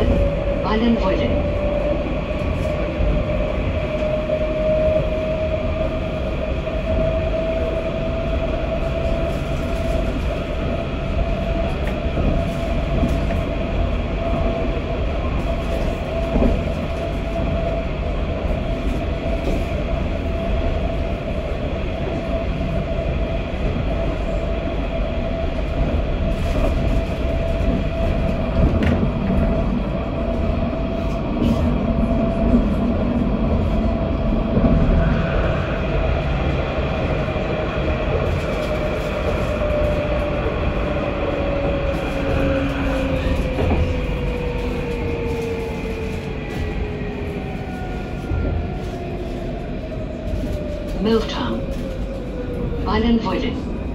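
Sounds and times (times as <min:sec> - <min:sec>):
tram wheels rumbling on rail: 0:00.0 - 0:53.9.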